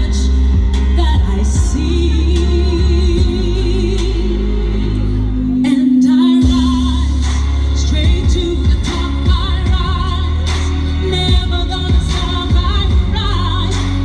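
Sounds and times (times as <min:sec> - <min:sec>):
loud backing track: 0:00.0 - 0:14.0
woman singing a ballad: 0:00.0 - 0:14.0.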